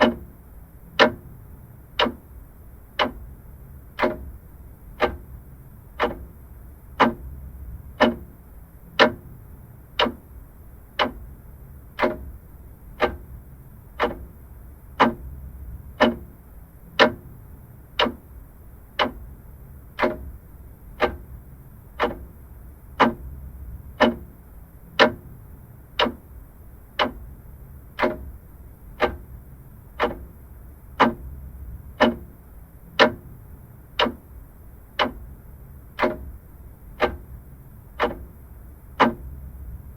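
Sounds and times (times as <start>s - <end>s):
faint low hum: 0.0s - 39.9s
mechanical clock ticking: 0.0s - 39.9s.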